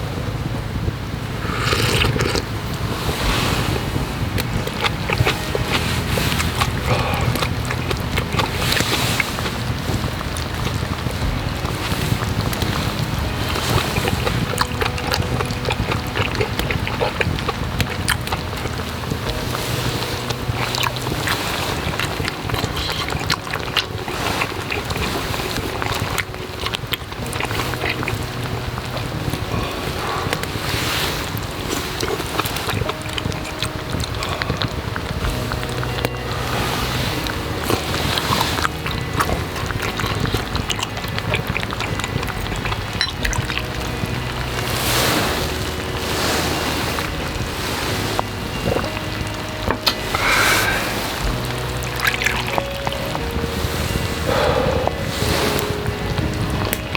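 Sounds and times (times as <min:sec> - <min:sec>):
strong wind blowing: 0:00.0 - 0:56.9
broth sloshing and dripping: 0:01.2 - 0:56.9.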